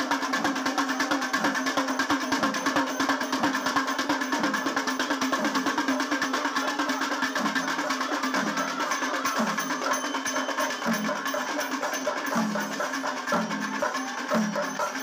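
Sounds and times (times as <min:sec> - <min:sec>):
drums rolling with sticks: 0:00.0 - 0:15.0.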